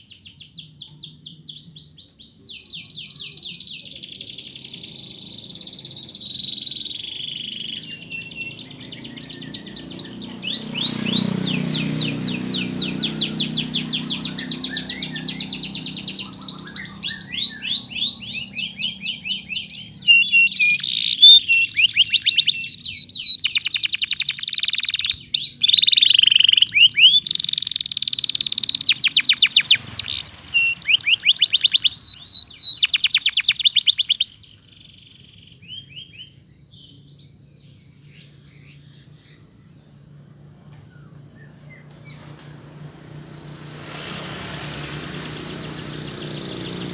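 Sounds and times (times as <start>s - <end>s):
faint bird chirps: 0.0s - 42.4s
canary singing trills: 0.0s - 46.9s.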